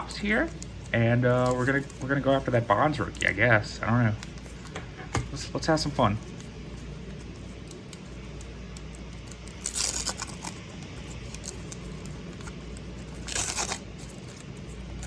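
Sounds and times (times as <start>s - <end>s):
wax paper wrappers tearing: 0.0s - 4.8s, 5.5s - 15.0s.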